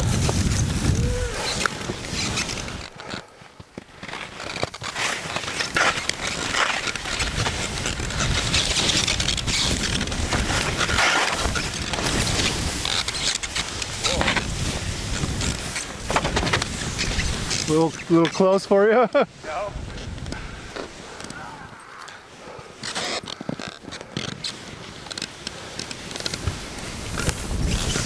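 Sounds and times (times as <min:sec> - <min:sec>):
skis scraping over snow: 0:00.0 - 0:28.0.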